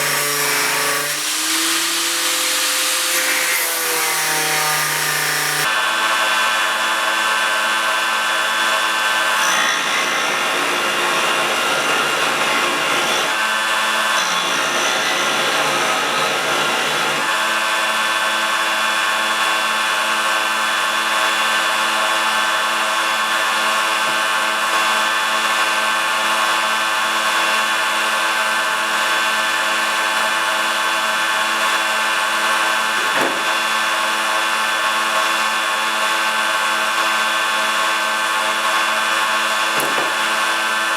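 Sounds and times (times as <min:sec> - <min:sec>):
electric grinder running: 0:00.0 - 0:40.9.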